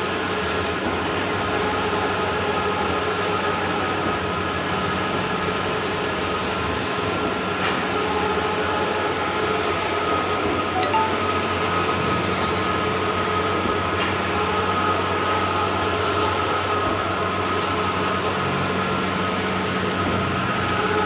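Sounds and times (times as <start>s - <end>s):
printing machine hum and whir: 0.0s - 10.7s, 11.3s - 21.0s.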